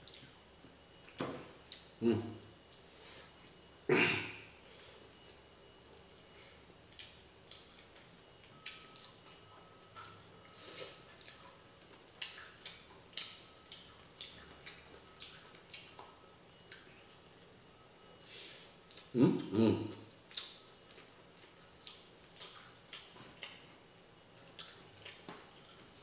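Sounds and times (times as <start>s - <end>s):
mouth chewing with wet smacks: 0.0s - 2.9s, 5.2s - 18.0s, 18.8s - 26.0s.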